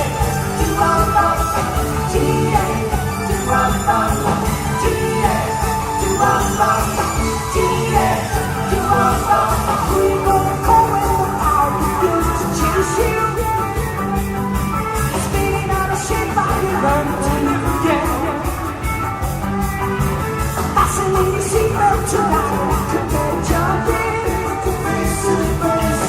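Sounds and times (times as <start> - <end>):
live rock band playing: 0.0 - 26.0
steady drum beat: 0.0 - 26.0.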